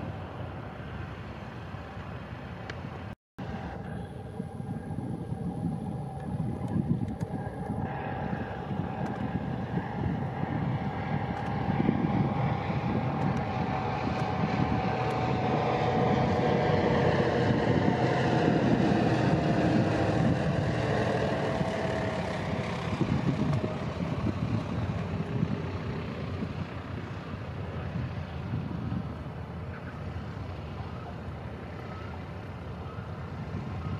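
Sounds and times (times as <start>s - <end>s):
propeller plane engine passing overhead: 0.0s - 33.9s.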